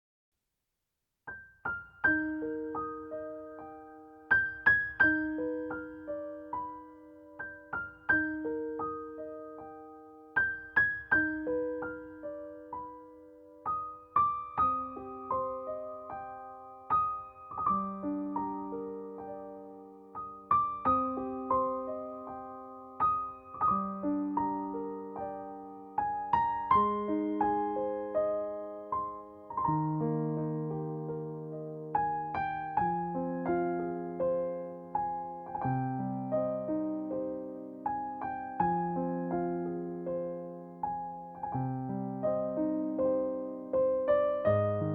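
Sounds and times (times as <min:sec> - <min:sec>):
slow solo piano arpeggios: 0:01.3 - 0:44.9.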